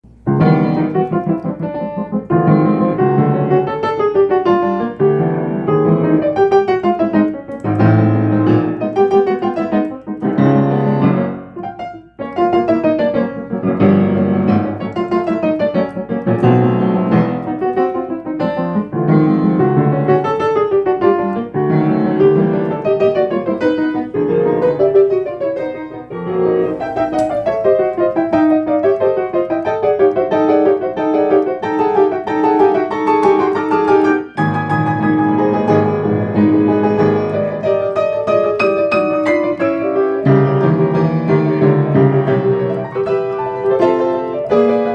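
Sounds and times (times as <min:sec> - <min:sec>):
piano playing arpeggios: 0:00.0 - 0:44.9.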